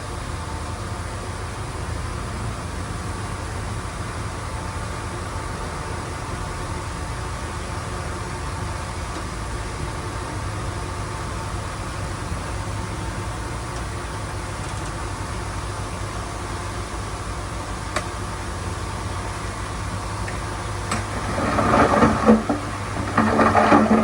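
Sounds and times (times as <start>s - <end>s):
heavy diesel machinery rumbling: 0.0s - 24.0s.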